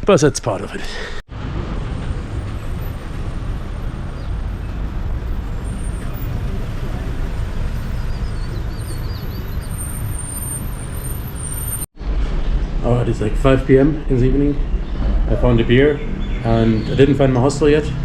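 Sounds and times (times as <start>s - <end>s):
street traffic rumble: 0.9s - 18.0s.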